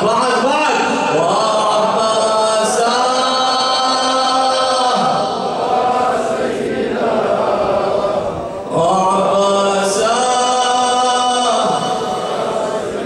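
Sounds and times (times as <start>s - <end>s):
mournful chanting: 0.0s - 13.0s.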